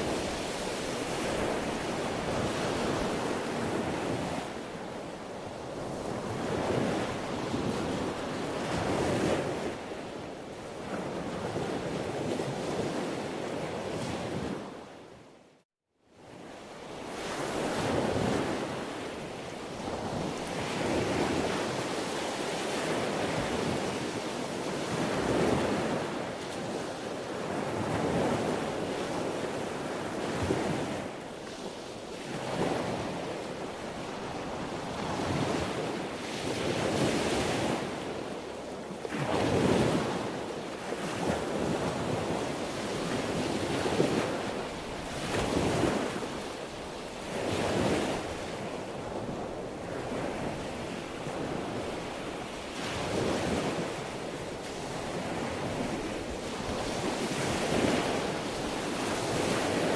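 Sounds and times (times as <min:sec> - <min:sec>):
sea waves breaking on shore: 0:00.0 - 0:15.2, 0:16.2 - 0:59.9.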